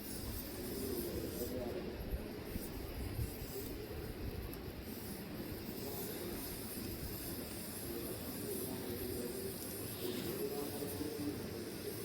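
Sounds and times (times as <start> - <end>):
fire crackling: 0.0 - 12.0.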